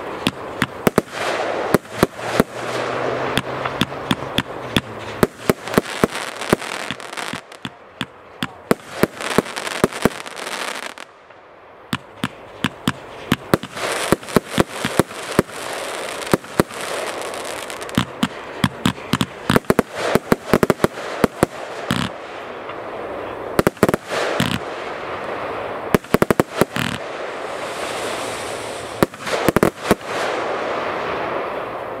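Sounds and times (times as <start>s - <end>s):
firework crackling and hiss: 0.0s - 32.0s
firework volleys of sharp bangs: 0.0s - 32.0s.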